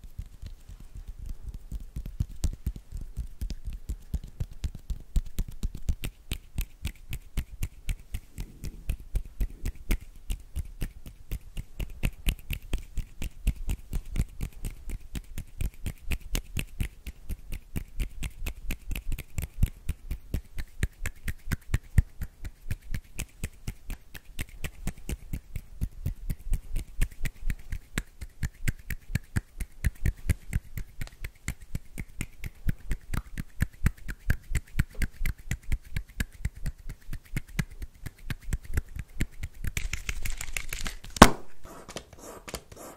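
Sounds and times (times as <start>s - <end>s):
finger clicks and snaps: 0.0s - 41.5s.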